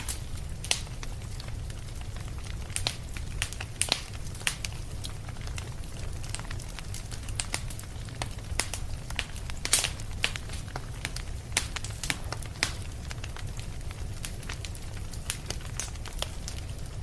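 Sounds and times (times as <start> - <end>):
fire crackling: 0.0 - 17.0
sharp pops of fire: 0.0 - 17.0.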